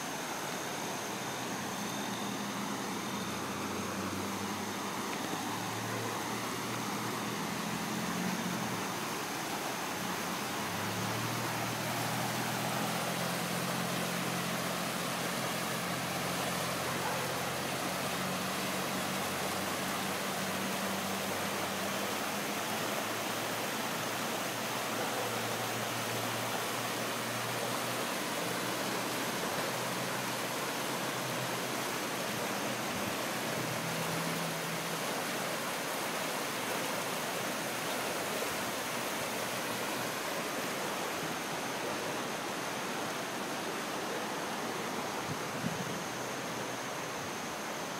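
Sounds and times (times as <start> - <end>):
floodwater rushing: 0.0 - 47.9.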